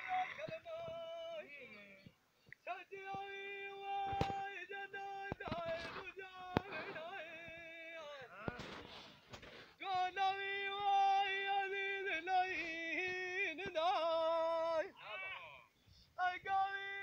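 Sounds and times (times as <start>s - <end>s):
man singing unaccompanied: 0.0s - 8.9s, 9.8s - 15.3s, 16.2s - 17.0s.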